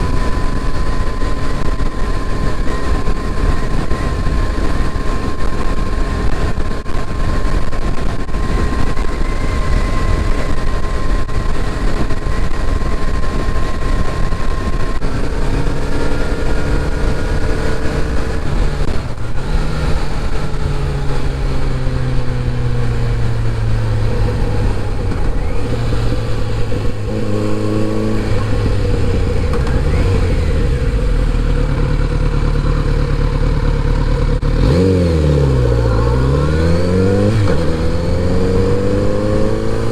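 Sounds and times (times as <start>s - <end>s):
wind rush: 0.0s - 32.6s
motorcycle engine: 0.0s - 39.9s.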